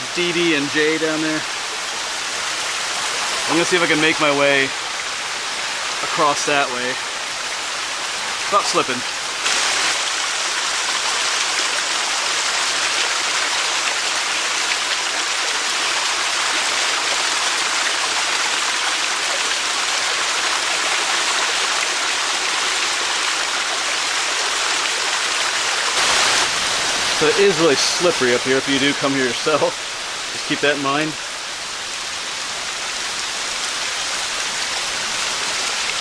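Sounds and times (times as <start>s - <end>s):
waterfall splashing over rocks: 0.0s - 36.0s.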